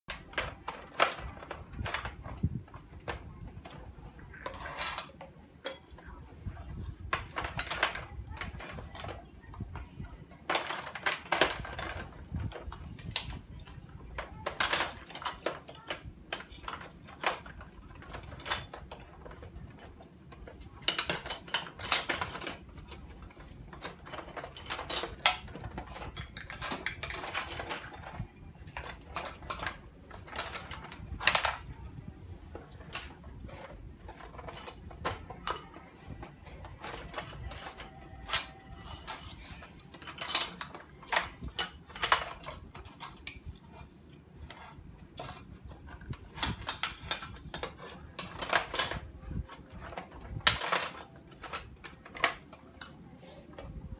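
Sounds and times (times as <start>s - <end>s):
plastic containers clattering: 0.0s - 53.9s.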